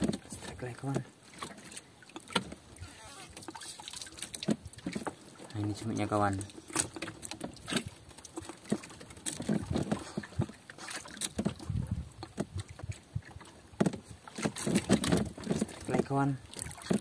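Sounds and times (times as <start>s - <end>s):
knocks and thuds in wooden boat: 0.0s - 17.0s.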